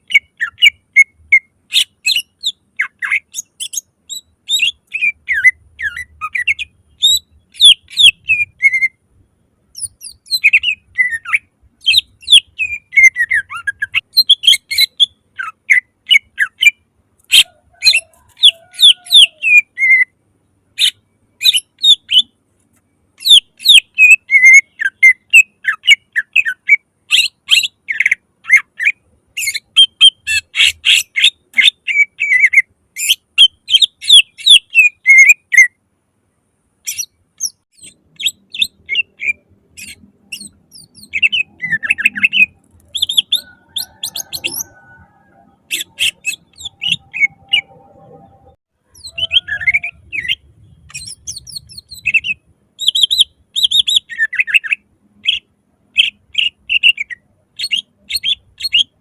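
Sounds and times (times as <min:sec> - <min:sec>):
bird singing chirps and whistles: 0:00.0 - 0:09.0, 0:09.8 - 0:20.1, 0:20.8 - 0:22.3, 0:23.2 - 0:35.8, 0:36.9 - 0:48.0, 0:48.9 - 0:55.4, 0:56.0 - 0:59.0.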